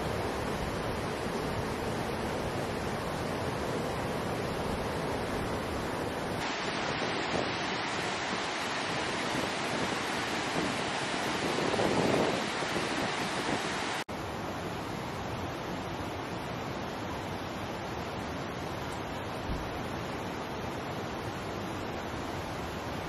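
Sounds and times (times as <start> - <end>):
mountain stream rushing: 0.0 - 23.0.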